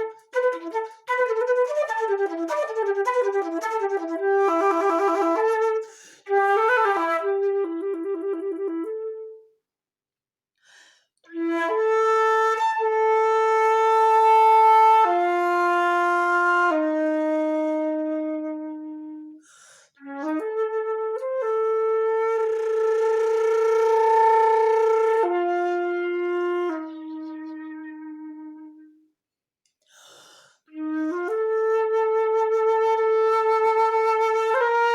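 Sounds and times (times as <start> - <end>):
solo flute playing: 0.0 - 9.5, 11.3 - 19.4, 20.0 - 29.0, 30.7 - 34.9.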